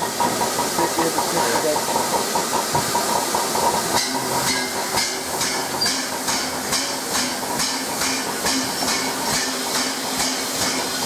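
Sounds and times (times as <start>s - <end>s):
rhythmic locomotive exhaust beats: 0.0s - 11.0s
steam locomotive hissing steam: 0.0s - 11.0s.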